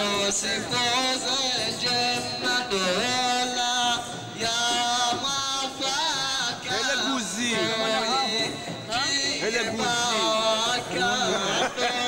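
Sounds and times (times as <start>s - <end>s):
voices singing a chant: 0.0s - 12.0s.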